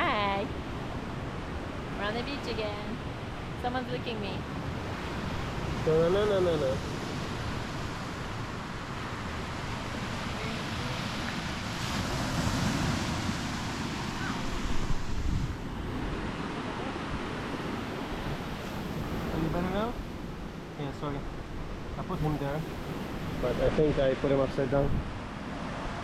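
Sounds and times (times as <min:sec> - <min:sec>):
ocean surf washing ashore: 0:00.0 - 0:26.0
wind buffeting microphone: 0:00.0 - 0:26.0.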